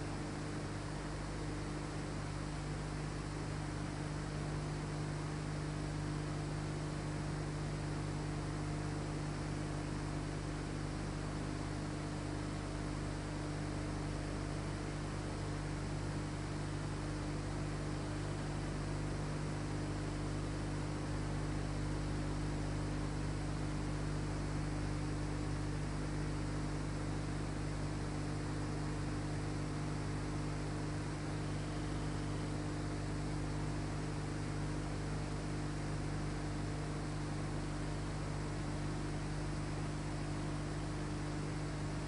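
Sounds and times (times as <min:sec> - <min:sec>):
electrical hum with hiss: 0:00.0 - 0:42.0.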